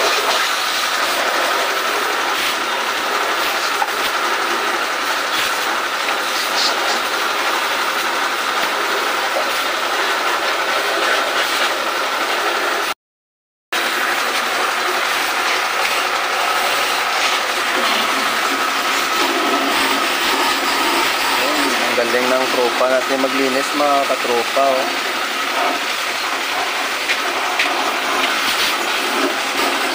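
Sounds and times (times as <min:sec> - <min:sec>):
pressure washer spraying: 0:00.0 - 0:12.9, 0:13.8 - 0:29.9.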